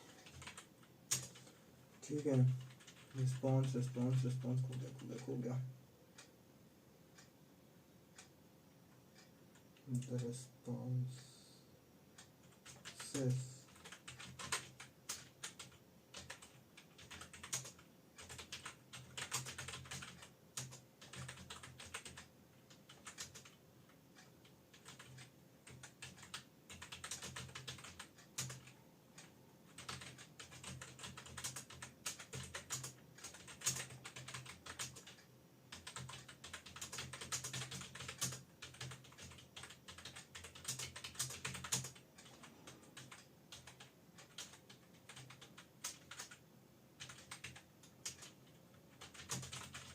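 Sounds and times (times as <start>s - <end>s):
fast typing on keyboard: 0.0s - 5.5s, 12.4s - 23.6s, 24.7s - 46.4s, 47.0s - 49.9s.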